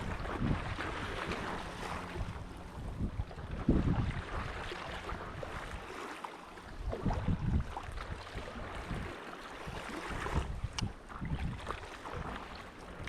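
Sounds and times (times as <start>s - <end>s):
wind buffeting microphone: 0.0s - 5.9s, 6.6s - 13.0s
water splashing and lapping: 0.0s - 13.0s.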